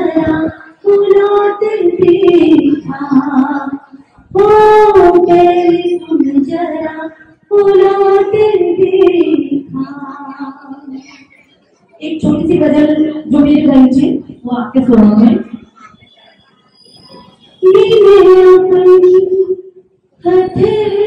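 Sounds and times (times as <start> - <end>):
woman singing into a microphone: 0.0 - 11.0, 12.0 - 15.5, 17.6 - 19.6, 20.2 - 21.0.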